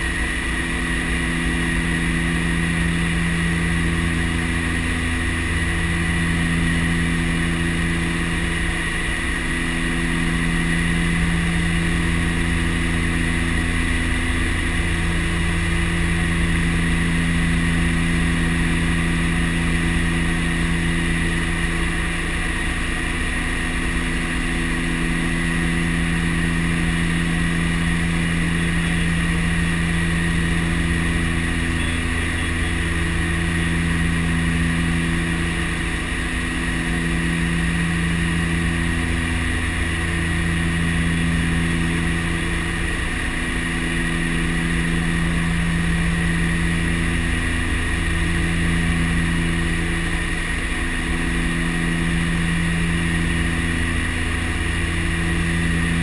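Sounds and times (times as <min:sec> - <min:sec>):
low propeller hum: 0:00.0 - 0:56.0
turbine whine: 0:00.0 - 0:56.0.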